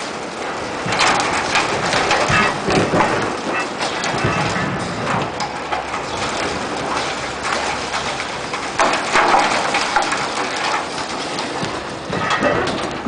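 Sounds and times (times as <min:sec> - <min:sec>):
concrete rubble falling: 0:00.0 - 0:13.0.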